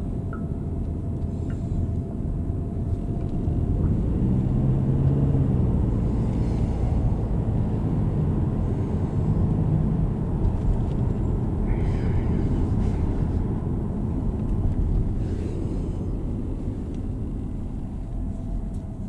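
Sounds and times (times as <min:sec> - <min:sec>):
vehicle road rumble from inside: 0:00.0 - 0:19.0.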